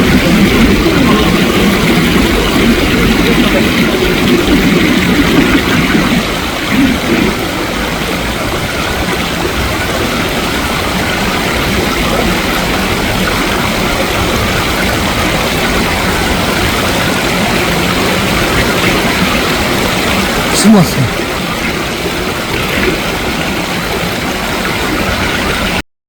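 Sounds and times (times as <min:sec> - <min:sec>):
water flowing in a stream: 0:00.0 - 0:25.8.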